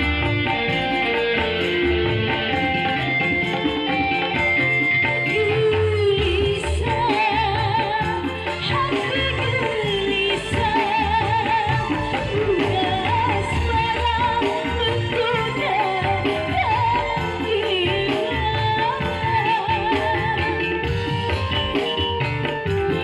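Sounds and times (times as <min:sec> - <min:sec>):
woman singing into a microphone: 0:00.0 - 0:22.3
electronic keyboard with beat: 0:00.0 - 0:23.0.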